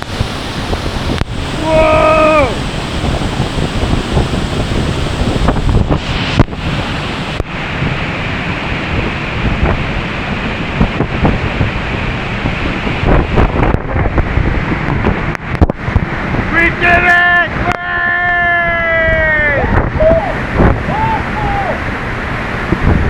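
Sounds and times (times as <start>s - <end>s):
wind buffeting microphone: 0.0s - 17.8s, 18.5s - 23.0s
waterfall rushing: 0.0s - 23.0s.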